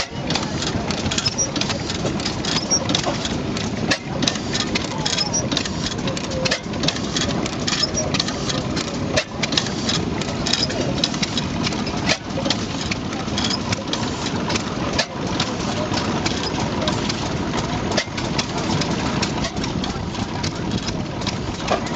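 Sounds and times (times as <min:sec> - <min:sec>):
stationary gas engine running: 0:00.0 - 0:21.9
valve gear clatter: 0:00.0 - 0:21.9.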